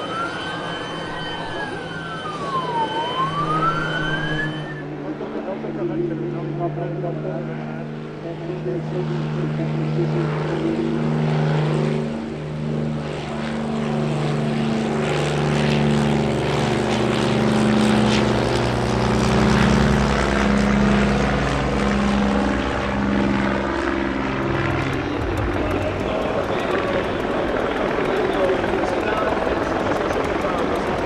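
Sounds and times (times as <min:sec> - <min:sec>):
propeller plane engine drone: 0:00.0 - 0:31.0.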